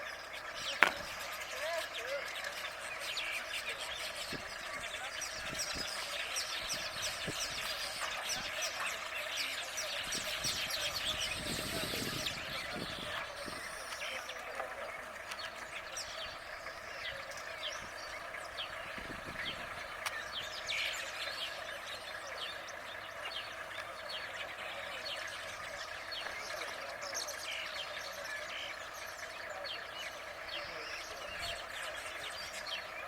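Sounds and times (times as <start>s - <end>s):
birds chirping and calling: 0.0s - 33.0s.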